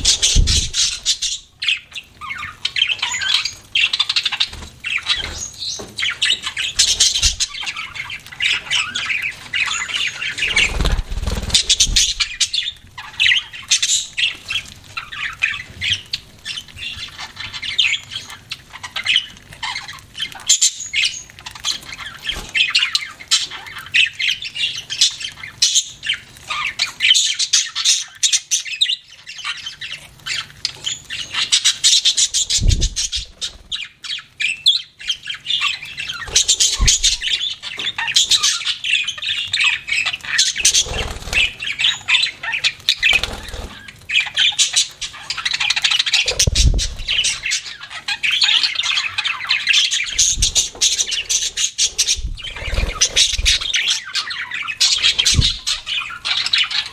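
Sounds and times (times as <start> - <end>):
budgerigars chattering: 0.0 - 56.9.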